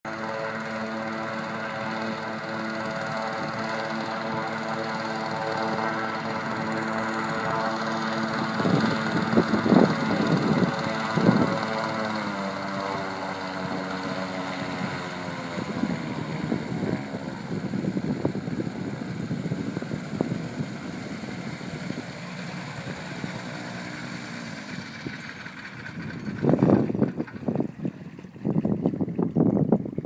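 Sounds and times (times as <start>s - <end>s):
airboat engine and propeller: 0.0s - 30.0s.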